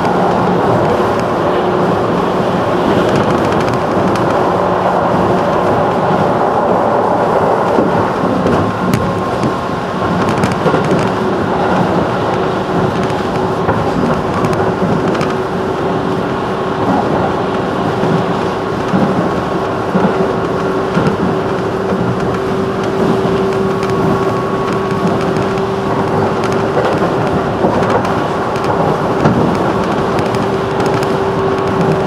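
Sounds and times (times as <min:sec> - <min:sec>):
electric train whine: 0:00.0 - 0:32.0
rumble of train wheels on rail: 0:00.0 - 0:32.0.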